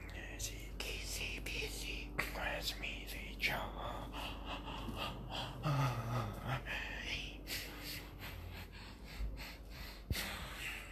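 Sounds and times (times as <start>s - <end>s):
reversed whispered vocal sounds: 0.0s - 10.9s.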